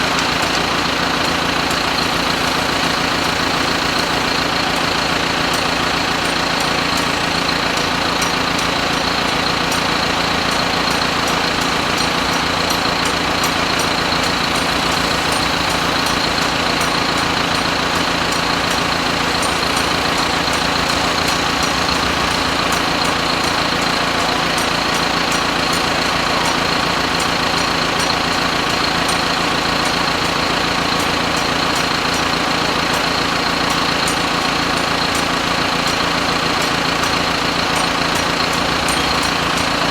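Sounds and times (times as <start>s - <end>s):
faint regular ticking: 0.0s - 39.9s
machine whining: 0.0s - 39.9s.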